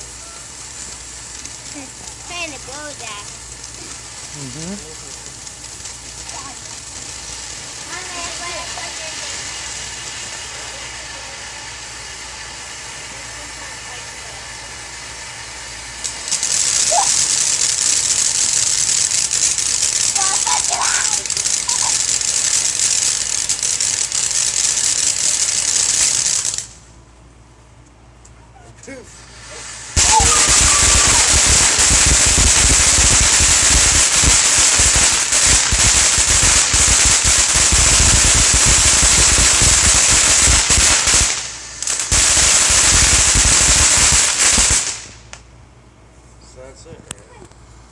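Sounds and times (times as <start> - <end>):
firework fountain hissing: 0.0 - 45.5.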